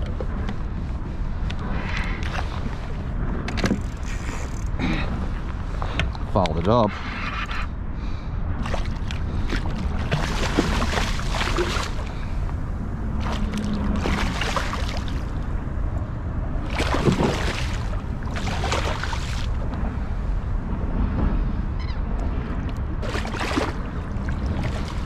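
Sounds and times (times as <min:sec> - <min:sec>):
water splashing around kayak: 0:00.0 - 0:06.3, 0:08.1 - 0:21.4, 0:22.2 - 0:25.0
wind rumble on microphone: 0:00.0 - 0:25.0.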